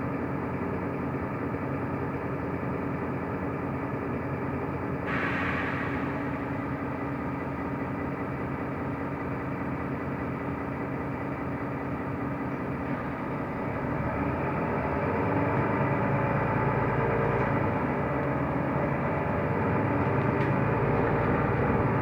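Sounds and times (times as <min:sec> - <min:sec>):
bus engine running: 0:00.0 - 0:22.0
road noise inside bus: 0:00.0 - 0:22.0.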